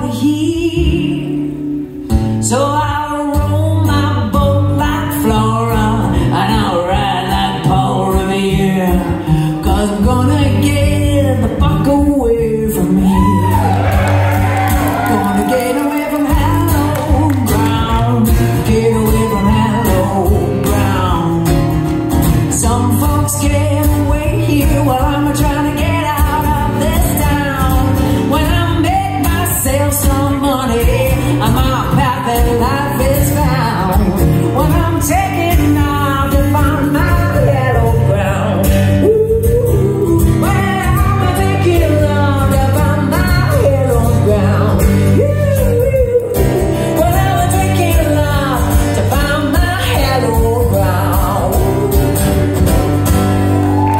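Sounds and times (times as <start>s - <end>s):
woman singing: 0.0s - 53.0s
strummed acoustic guitar: 0.1s - 53.9s.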